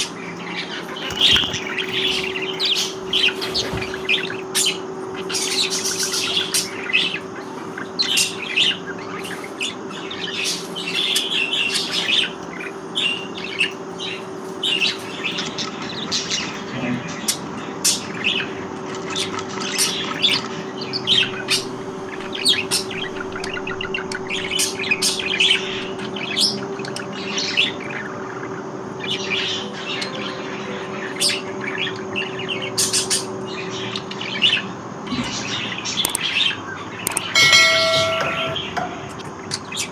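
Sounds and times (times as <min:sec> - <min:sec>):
steady low hum: 0:00.0 - 0:39.5
budgerigars chirping: 0:00.0 - 0:39.9.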